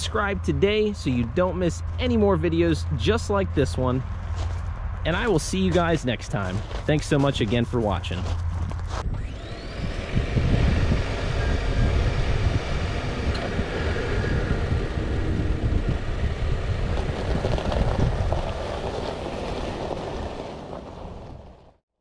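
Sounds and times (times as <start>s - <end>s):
low rumble: 0.0s - 21.7s
wind buffeting microphone: 1.5s - 21.7s.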